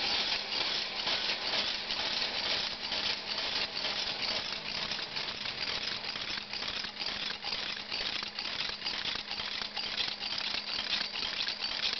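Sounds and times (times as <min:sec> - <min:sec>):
rattle of small mechanical clicks: 0:00.0 - 0:11.9.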